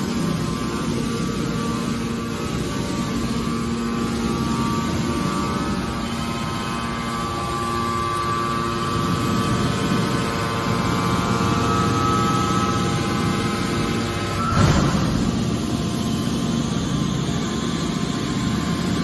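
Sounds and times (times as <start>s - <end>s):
machine hum with pump whine: 0.0s - 19.0s.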